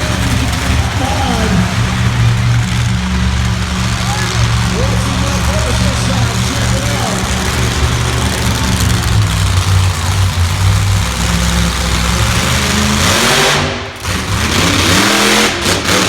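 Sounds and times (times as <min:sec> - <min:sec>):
truck engine running loud: 0:00.0 - 0:16.0.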